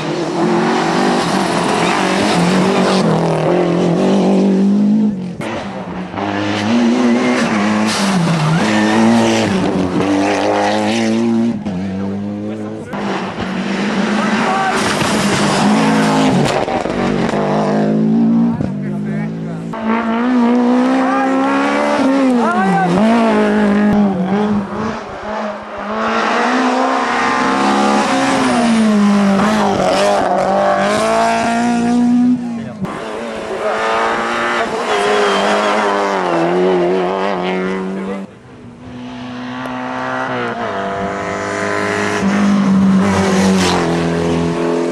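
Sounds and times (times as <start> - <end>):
car engine at high revs: 0.0 - 44.9.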